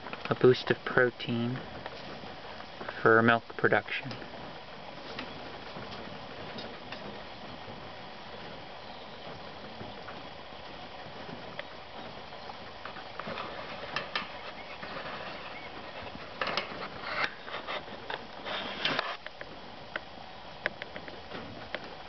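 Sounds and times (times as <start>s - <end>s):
dry hay rustling and crackling: 0.0s - 22.0s.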